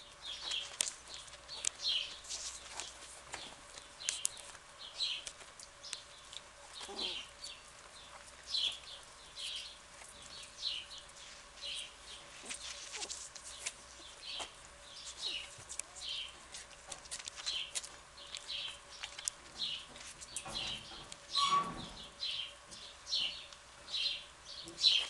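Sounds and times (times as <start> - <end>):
birds chirping: 0.0 - 12.8, 13.4 - 16.6, 17.3 - 25.0.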